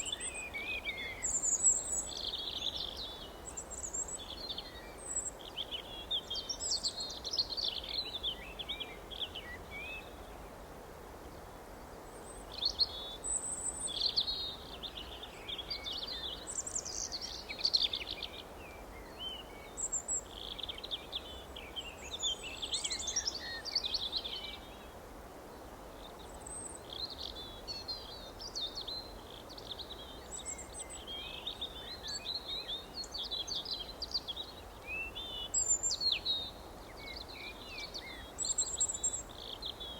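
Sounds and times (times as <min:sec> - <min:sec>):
low background hiss and rumble: 0:00.0 - 0:39.9.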